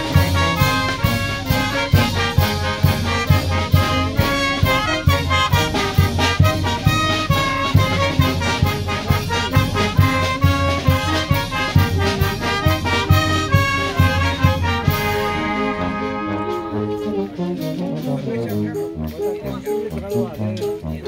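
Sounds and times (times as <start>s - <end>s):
brass band playing: 0.0s - 21.0s
steady beat: 0.0s - 21.0s.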